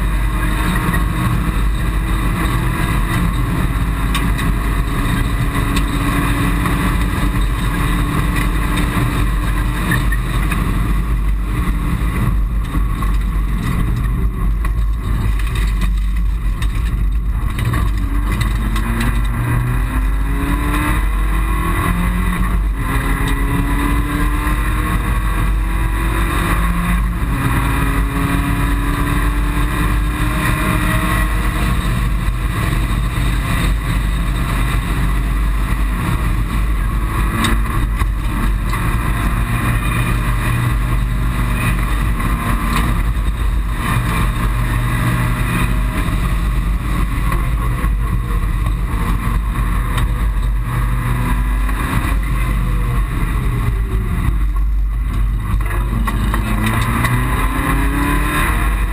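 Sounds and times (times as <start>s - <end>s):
car engine accelerating: 0.0s - 58.9s
road and tyre rumble: 0.0s - 58.9s.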